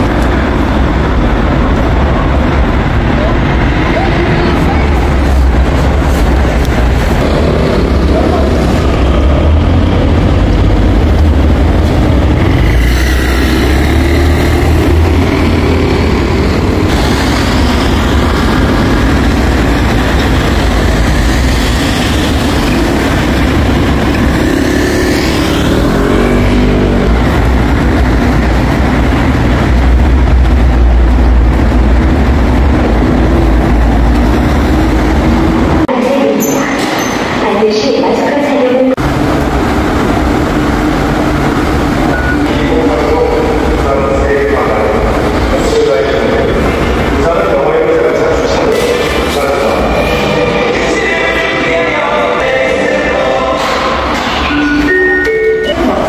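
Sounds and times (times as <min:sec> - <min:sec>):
subway train rumbling: 0:00.0 - 0:56.0
train rushing noise: 0:00.0 - 0:56.0.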